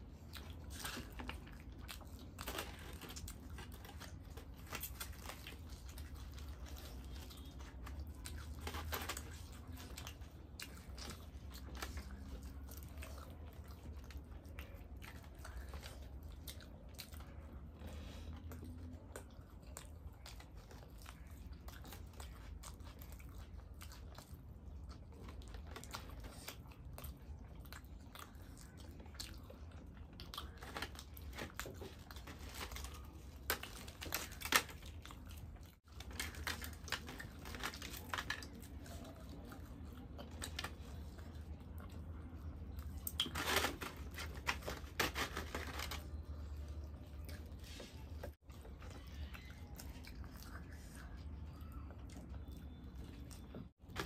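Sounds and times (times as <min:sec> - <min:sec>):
people chewing food: 0:00.0 - 0:54.0.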